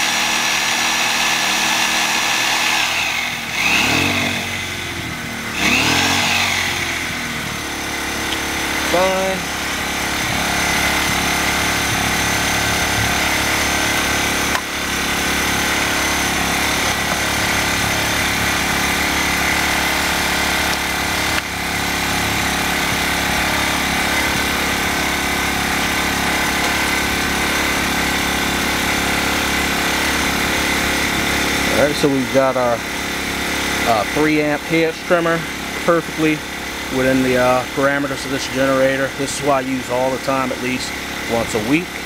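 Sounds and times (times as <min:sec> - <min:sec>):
generator engine running: 0:00.0 - 0:42.0.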